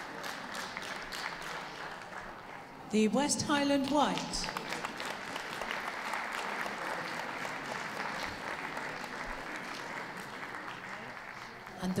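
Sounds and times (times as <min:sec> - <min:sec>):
audience applauding: 0:00.0 - 0:02.9, 0:03.9 - 0:12.0.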